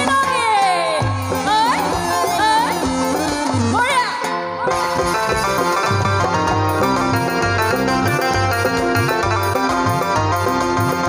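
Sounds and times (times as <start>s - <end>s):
bass: 0.0s - 11.0s
electric guitar: 0.0s - 11.0s
keyboard notes: 0.0s - 11.0s.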